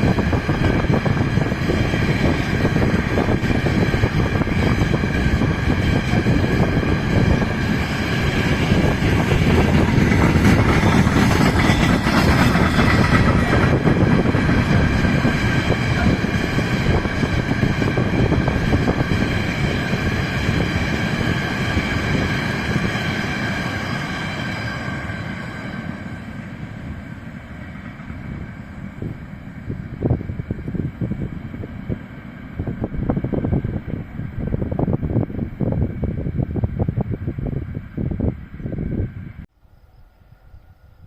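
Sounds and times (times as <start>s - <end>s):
train passing: 0.0s - 41.0s.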